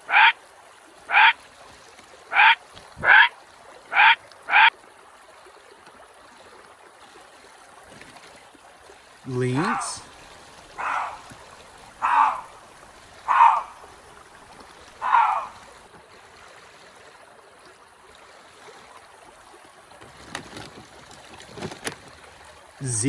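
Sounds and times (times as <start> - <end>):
stream flowing: 0.0 - 23.0.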